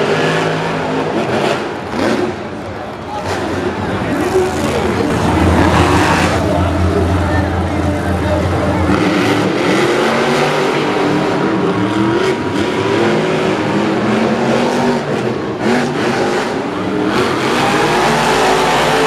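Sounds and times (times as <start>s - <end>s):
monster truck engines revving: 0.0s - 19.0s.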